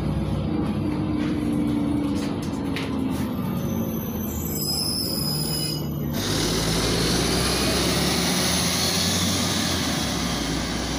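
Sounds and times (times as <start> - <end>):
bus engine running with hiss: 0.0 - 10.9.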